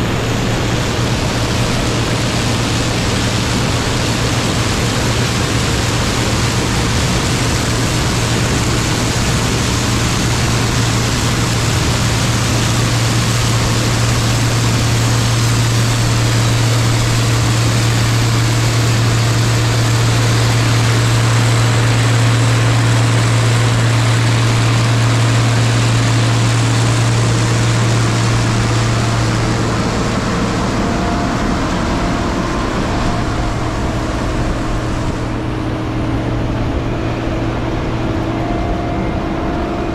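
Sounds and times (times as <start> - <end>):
diesel machinery engine drone: 0.0 - 39.9
wide rushing noise: 0.0 - 39.9.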